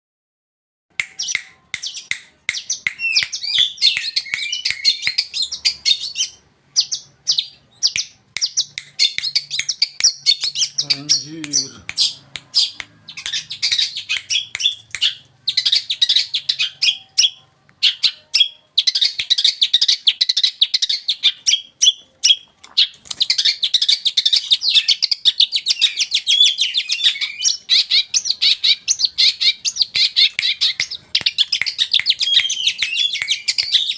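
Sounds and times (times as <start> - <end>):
bird chattering song: 1.1 - 33.9.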